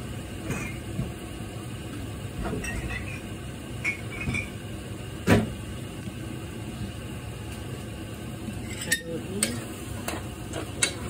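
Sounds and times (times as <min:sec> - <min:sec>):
gas stove low rumble: 0:00.0 - 0:11.0.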